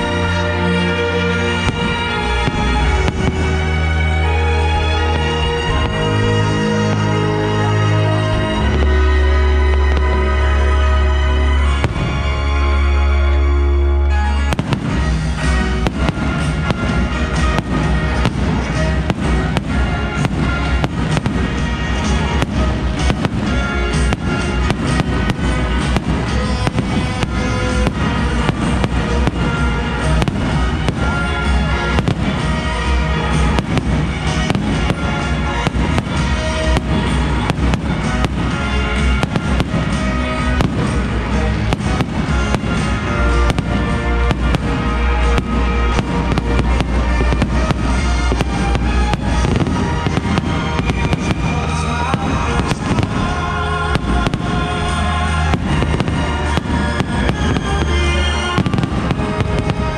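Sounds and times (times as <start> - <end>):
fireworks bursting: 0.0 - 59.9
music with sustained notes: 0.0 - 59.9.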